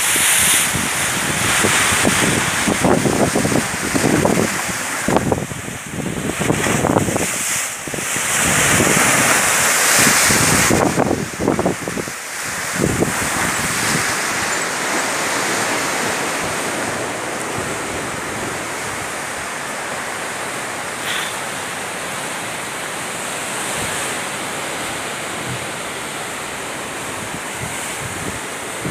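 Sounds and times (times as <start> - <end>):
sea waves breaking over rocks: 0.0 - 28.9
wind buffeting microphone: 0.0 - 28.9.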